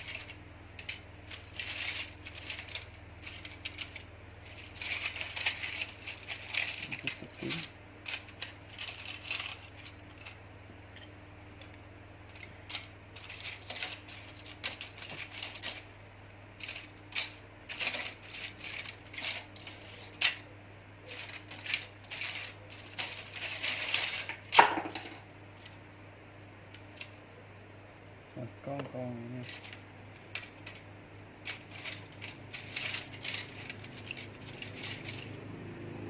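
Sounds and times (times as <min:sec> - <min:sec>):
small parts rattling: 0:00.0 - 0:27.4, 0:28.4 - 0:36.0
faint steady hum: 0:00.0 - 0:36.0.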